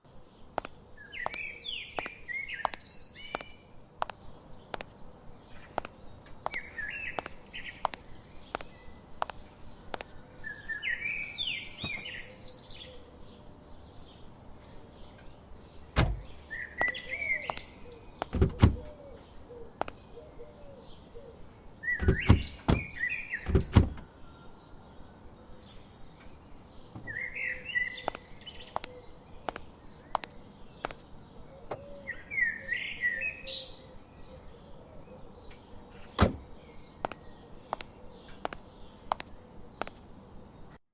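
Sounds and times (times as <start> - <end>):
bird chirping: 0.1 - 40.8.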